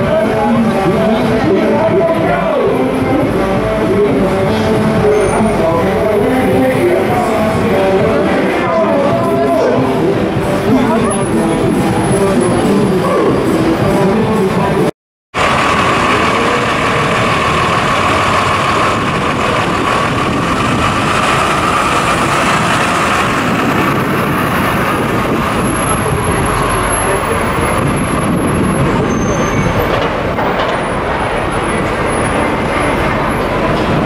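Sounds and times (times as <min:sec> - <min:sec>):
bus diesel engine passing: 0:00.0 - 0:34.0
city street traffic: 0:00.0 - 0:34.0.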